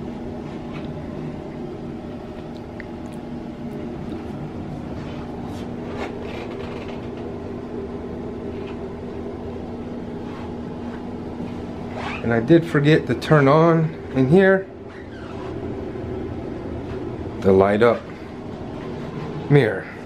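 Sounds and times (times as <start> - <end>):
ventilation hum: 0.0 - 20.0.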